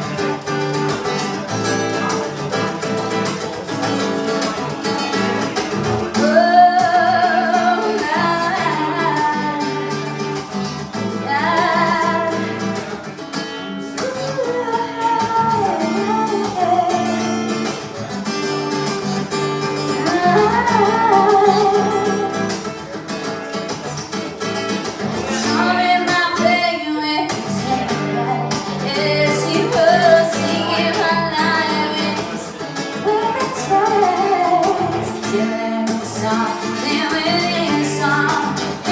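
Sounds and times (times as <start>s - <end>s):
person singing: 0.0s - 17.9s, 19.6s - 22.7s, 25.1s - 38.9s
acoustic guitar strumming: 0.0s - 38.9s.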